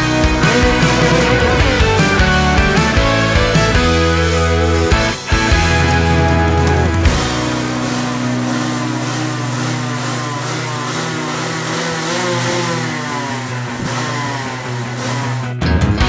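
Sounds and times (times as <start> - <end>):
two-stroke kart engine revving: 0.0 - 16.0.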